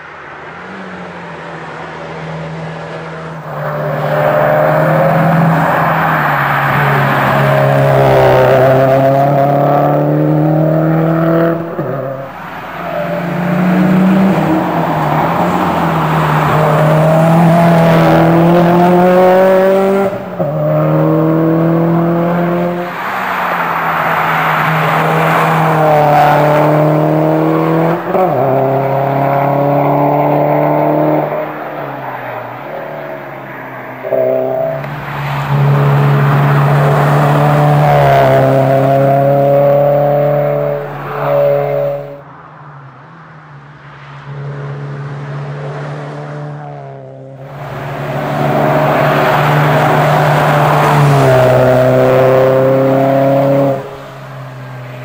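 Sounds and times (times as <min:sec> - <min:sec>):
rally car engine accelerating: 0:00.5 - 0:33.3, 0:34.0 - 0:42.2, 0:44.3 - 0:55.0.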